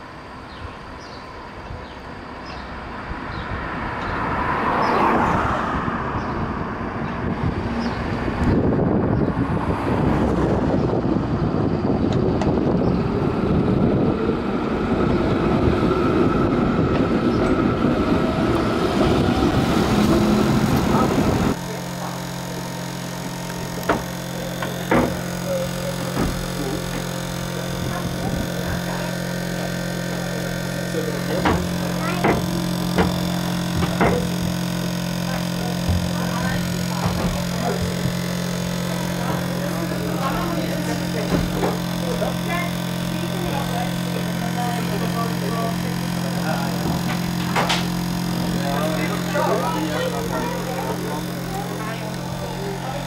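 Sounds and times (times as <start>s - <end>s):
streetcar running past: 0.0s - 42.6s.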